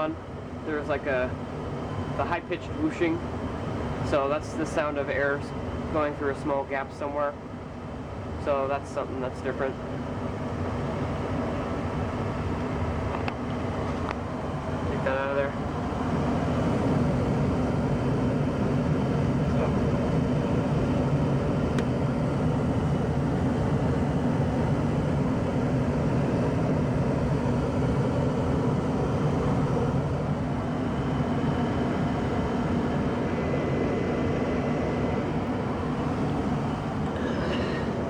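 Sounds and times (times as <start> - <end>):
furnace blower fan hum: 0.0 - 38.0.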